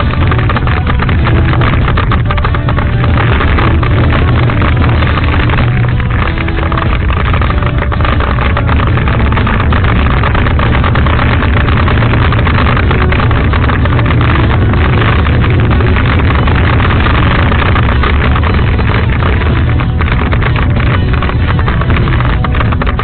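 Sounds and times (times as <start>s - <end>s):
road noise: 0.0s - 23.0s
wind rumble on microphone: 0.0s - 23.0s.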